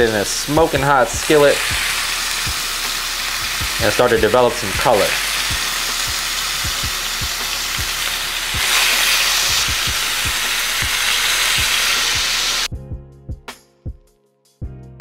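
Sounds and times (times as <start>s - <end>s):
meat sizzling in hot oil: 0.0s - 12.7s
background music beat: 0.0s - 15.0s.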